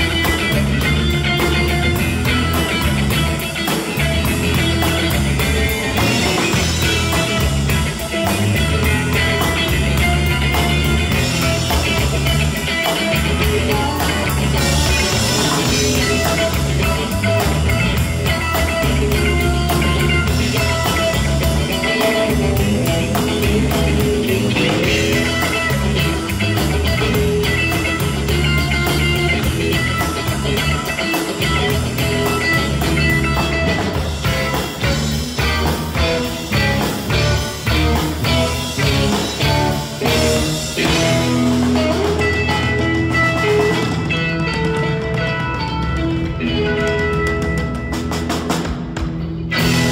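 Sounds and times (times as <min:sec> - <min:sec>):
electric guitar: 0:00.0 - 0:49.9
rock band playing: 0:00.0 - 0:49.9.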